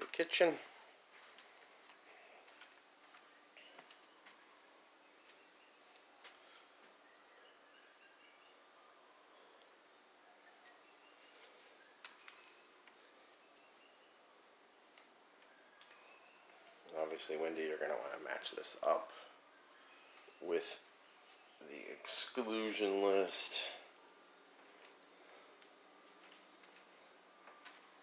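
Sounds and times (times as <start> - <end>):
faint chirps: 0.3 - 28.0.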